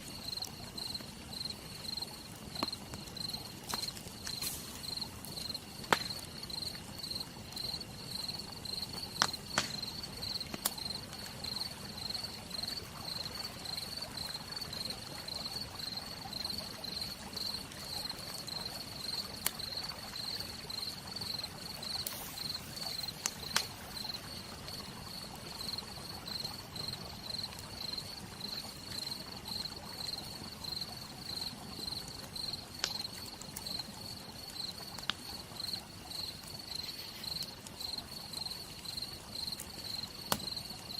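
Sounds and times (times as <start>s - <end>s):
campfire crackling and popping: 0.0s - 40.9s
cricket chirping: 0.0s - 40.9s
soft hiss of rain: 0.0s - 40.9s.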